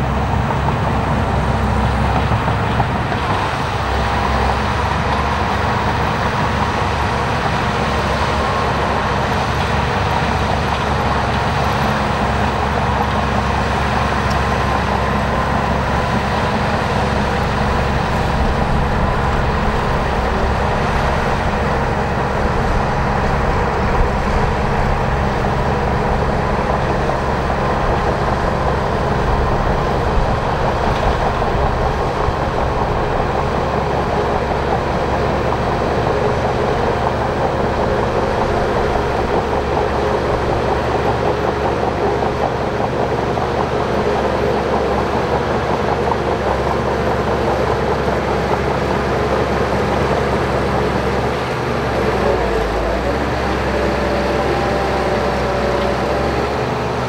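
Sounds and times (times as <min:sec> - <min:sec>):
bulldozer diesel engine under load: 0:00.0 - 0:57.0
steel tracks rattling: 0:00.0 - 0:57.0.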